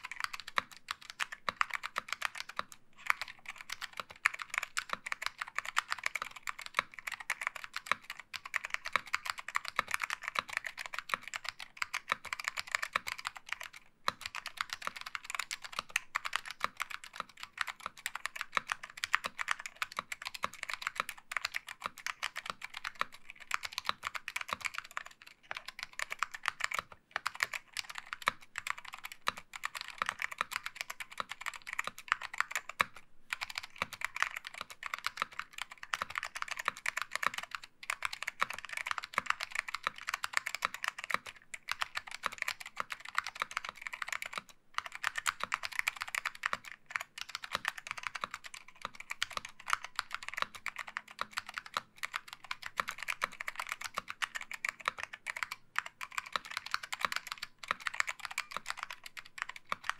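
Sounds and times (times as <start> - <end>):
mechanical keyboard typing: 0.0 - 59.9.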